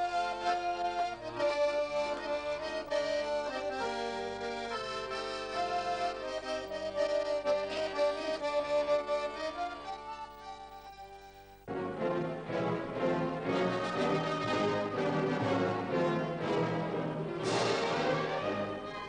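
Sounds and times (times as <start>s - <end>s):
accordion folk tune: 0.0s - 19.0s.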